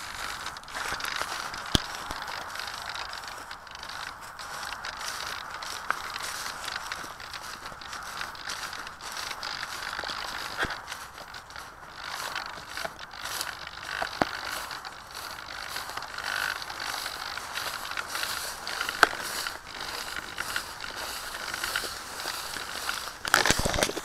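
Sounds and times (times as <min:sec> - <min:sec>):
sharp clicks: 0:00.0 - 0:24.0.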